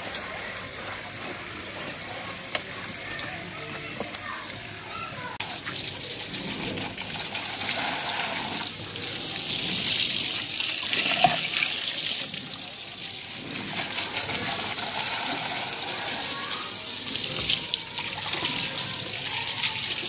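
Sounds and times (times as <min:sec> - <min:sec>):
hose water splashing on car: 0:00.0 - 0:20.0.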